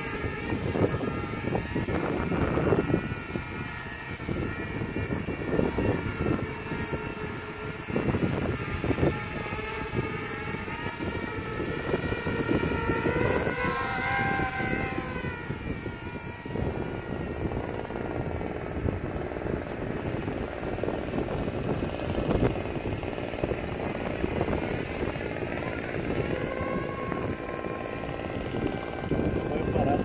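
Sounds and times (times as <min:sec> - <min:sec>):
drone propellers whining: 0:00.0 - 0:30.0
wind buffeting microphone: 0:00.0 - 0:30.0.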